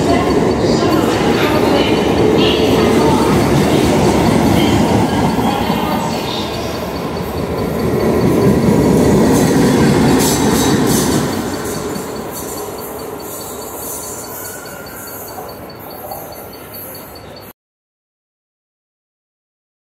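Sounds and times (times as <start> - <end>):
train wheels on rails: 0.0 - 17.5.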